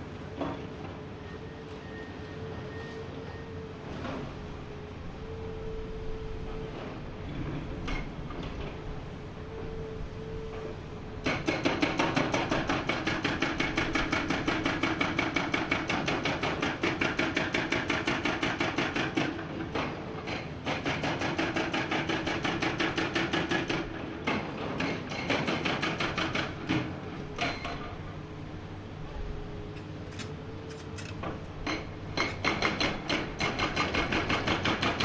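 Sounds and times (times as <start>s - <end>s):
excavator engine: 0.0s - 35.0s.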